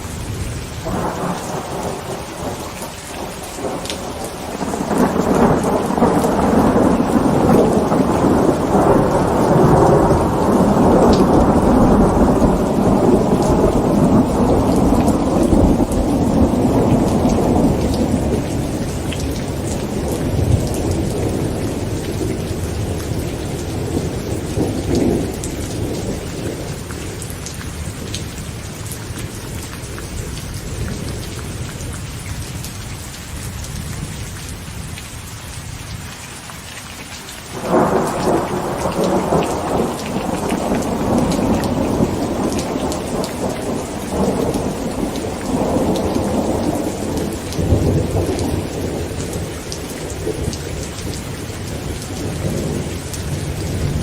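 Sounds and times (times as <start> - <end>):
thunder rumbling: 0.0 - 31.2, 37.5 - 54.0
heavy rain on a tent: 0.0 - 54.0.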